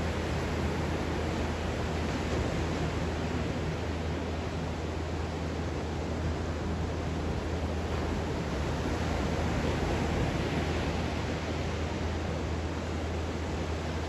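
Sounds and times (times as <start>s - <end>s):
surf washing up a beach: 0.0s - 14.0s.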